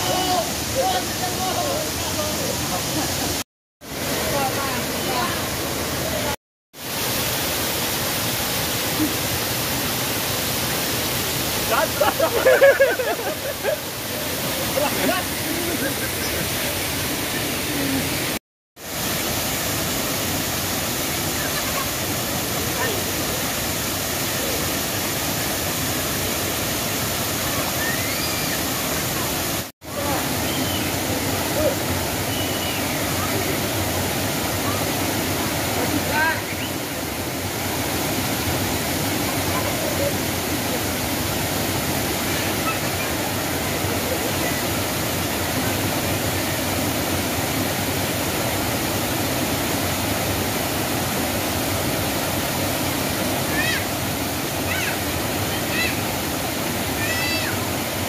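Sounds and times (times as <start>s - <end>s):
waterfall rushing onto rocks: 0.0s - 58.0s.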